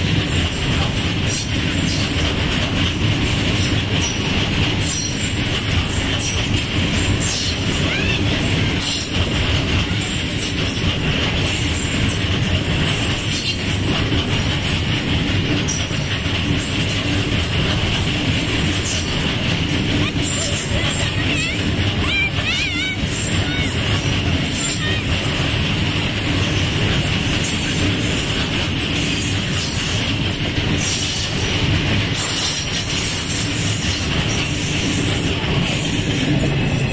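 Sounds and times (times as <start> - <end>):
freight wagon wheels on rails: 0.0 - 36.9.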